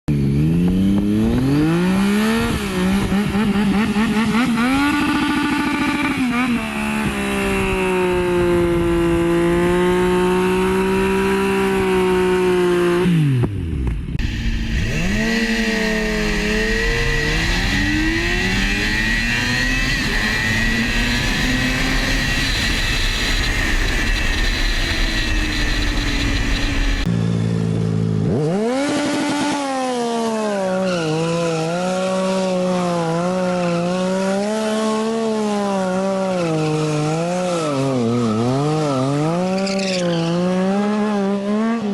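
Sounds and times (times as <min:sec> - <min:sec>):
motorcycle engines revving: 0:00.1 - 0:41.9.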